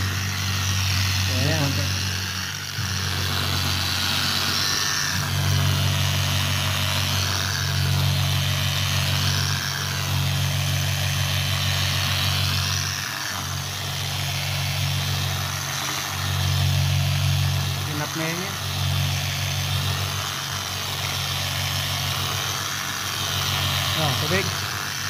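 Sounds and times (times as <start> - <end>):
angle grinder motor humming: 0.0 - 25.0
wet polishing hiss: 0.0 - 25.0.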